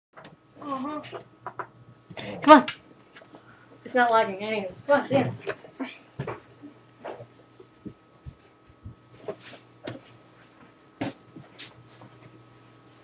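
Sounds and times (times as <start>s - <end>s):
faint steady hum: 0.2s - 13.0s.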